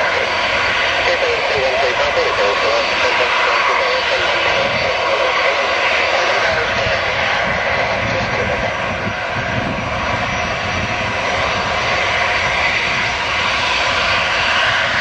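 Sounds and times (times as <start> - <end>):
jet engines whining at taxi: 0.0 - 15.0.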